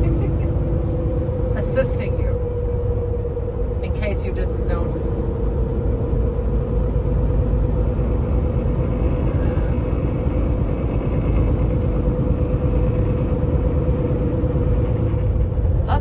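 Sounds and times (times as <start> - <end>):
steady hum: 0.0 - 16.0
truck engine and road rumble: 0.0 - 16.0.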